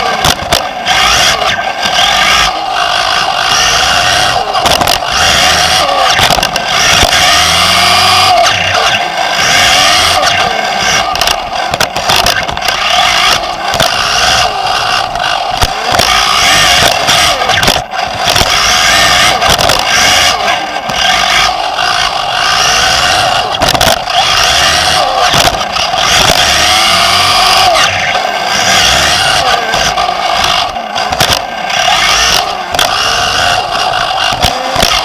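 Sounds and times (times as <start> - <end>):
sharp knocks from landings: 0.0 - 2.6, 3.6 - 35.0
buzz of other rc cars: 0.0 - 35.0
rc car motor whining: 0.0 - 35.0.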